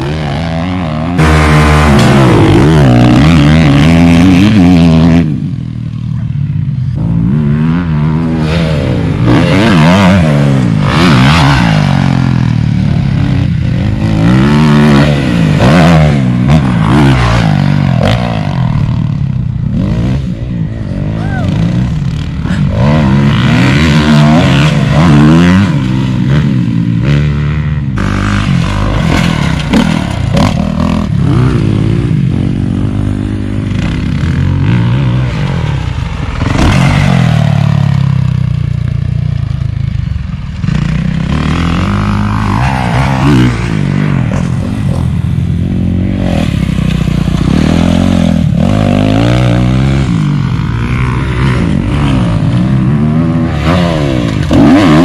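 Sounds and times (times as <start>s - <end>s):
dirt bikes revving: 0.0s - 55.0s.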